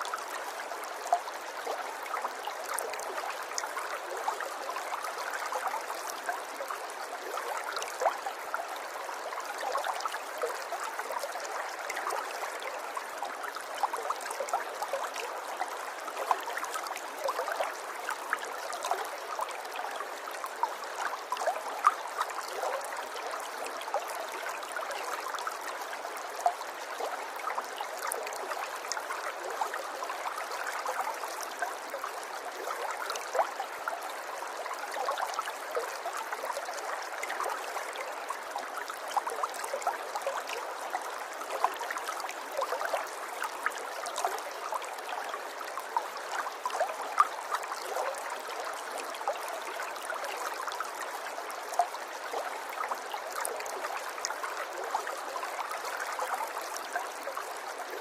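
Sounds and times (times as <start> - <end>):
river water babbling: 0.0 - 58.0.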